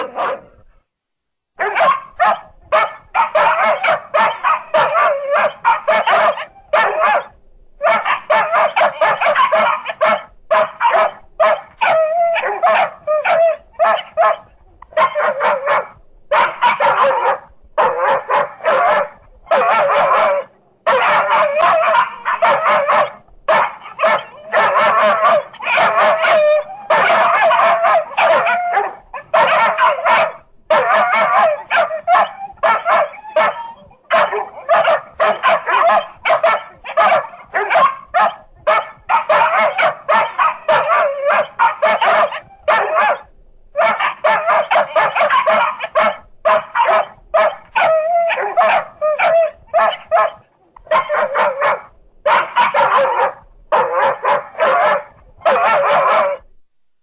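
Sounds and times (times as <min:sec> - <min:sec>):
dog barking and yipping: 0:00.0 - 0:00.6, 0:01.6 - 0:56.5.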